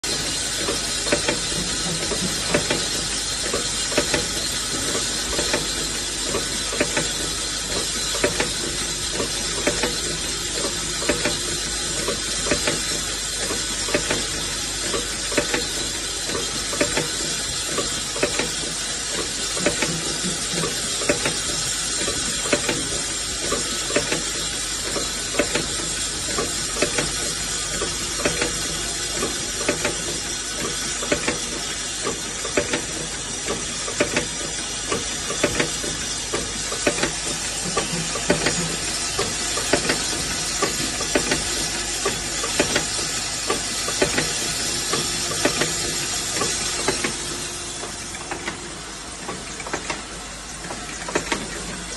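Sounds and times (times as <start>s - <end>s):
brazing machine hissing: 0.1s - 51.9s
mechanical clicks and knocks: 0.1s - 51.9s.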